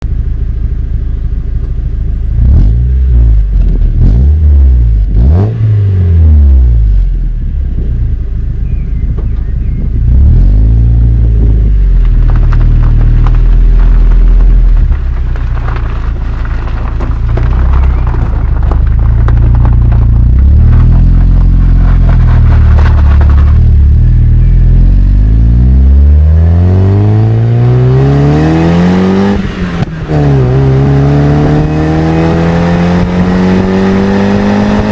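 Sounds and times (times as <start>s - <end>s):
car engine revving: 2.2s - 34.9s.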